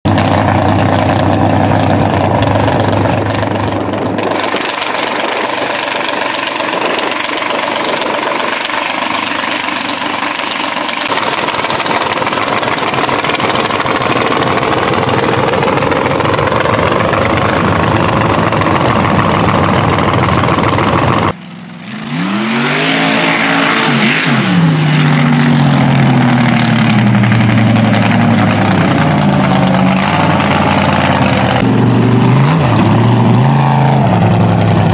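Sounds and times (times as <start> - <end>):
truck engines running: 0.0 - 34.9
engine revving: 0.1 - 34.9.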